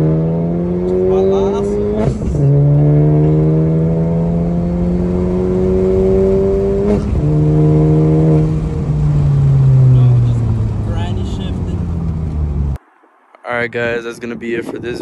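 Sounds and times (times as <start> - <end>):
car engine accelerating: 0.0 - 13.8.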